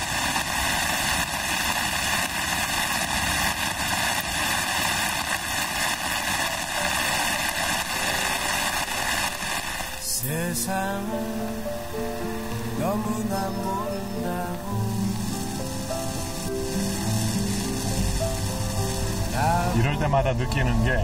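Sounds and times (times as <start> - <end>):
heavy rain on trees: 0.0 - 21.0.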